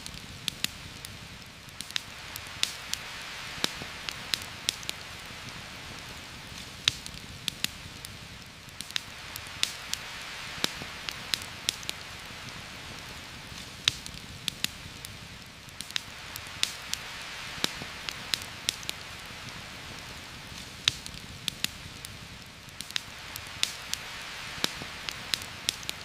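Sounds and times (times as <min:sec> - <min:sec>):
campfire crackling and popping: 0:00.0 - 0:26.0
steady rain hissing: 0:00.0 - 0:26.0.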